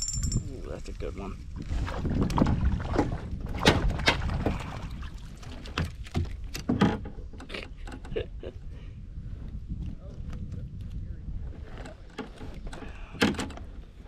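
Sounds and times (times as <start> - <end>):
wind noise rumble: 0.0 - 14.0.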